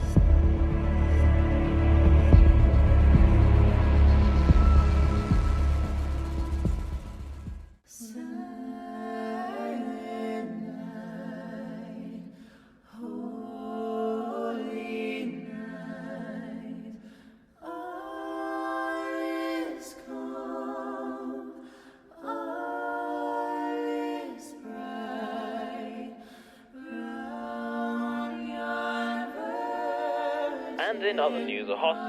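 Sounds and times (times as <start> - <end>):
a cappella voices singing: 0.0 - 32.0.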